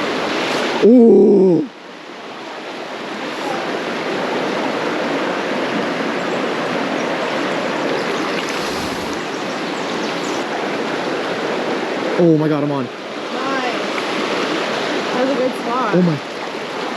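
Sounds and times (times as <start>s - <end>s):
creek water rushing: 0.0s - 0.8s, 1.8s - 16.9s.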